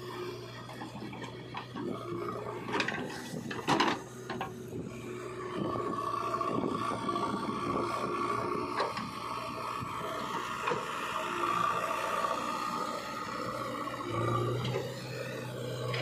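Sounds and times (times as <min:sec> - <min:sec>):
diesel engine running under load: 0:00.0 - 0:16.0
hydraulic whine: 0:00.0 - 0:16.0.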